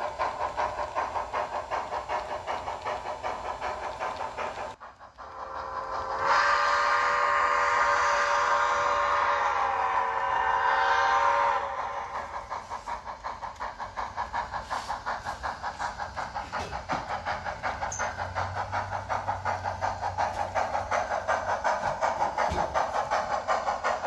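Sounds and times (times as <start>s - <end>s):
model steam locomotive chuffing: 0.0s - 24.0s
steam hiss: 0.0s - 24.0s.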